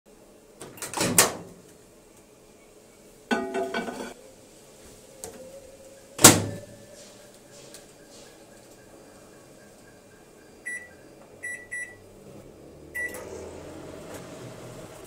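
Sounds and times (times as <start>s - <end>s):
faint steady hum: 1.5s - 13.8s.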